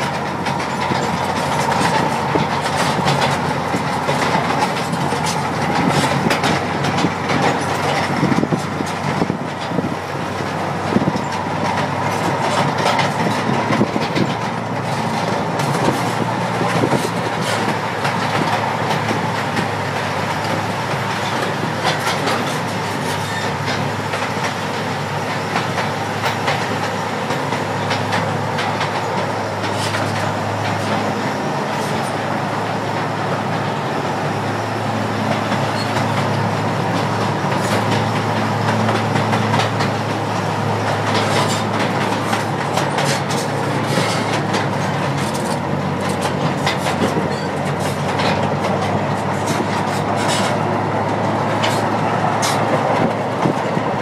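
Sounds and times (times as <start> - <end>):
amusement train rumbling: 0.0 - 54.0
wheels clicking over rail joints: 0.0 - 54.0.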